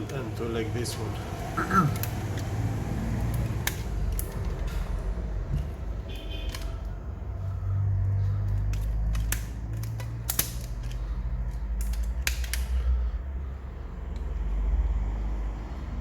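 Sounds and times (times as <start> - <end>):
repair tools clicking and creaking: 0.0 - 13.3.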